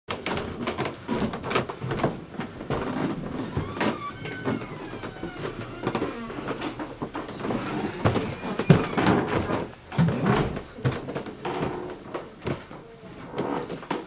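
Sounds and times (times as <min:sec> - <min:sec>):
rapid knocks and clattering: 0:00.1 - 0:11.7.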